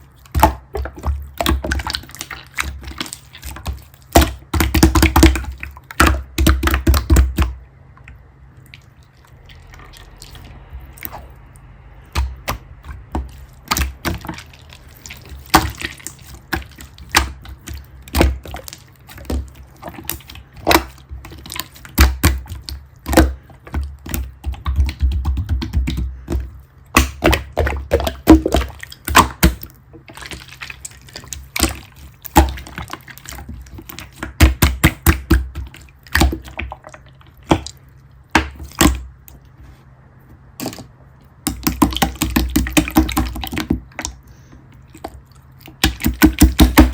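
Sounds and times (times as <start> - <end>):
slime squishing by hand: 0.0 - 46.9.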